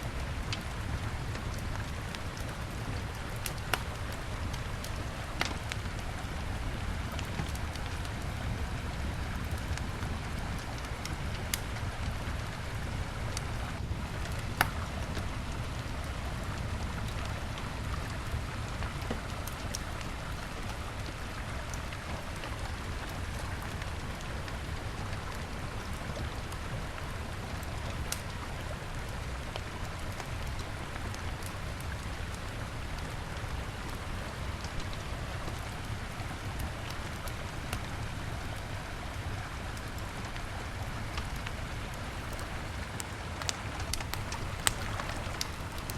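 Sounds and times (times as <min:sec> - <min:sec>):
bonfire crackling and popping: 0:00.2 - 0:25.0, 0:25.8 - 0:34.8, 0:42.0 - 0:45.9.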